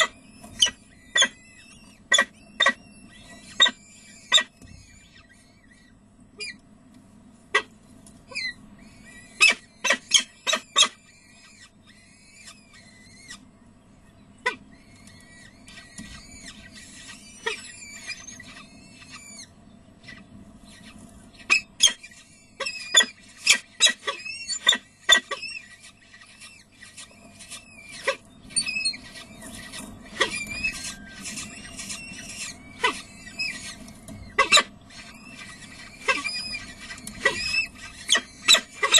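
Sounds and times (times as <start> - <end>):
falcon chicks begging calls: 0.0 - 6.7, 7.5 - 38.9
steady low hum: 0.0 - 38.9.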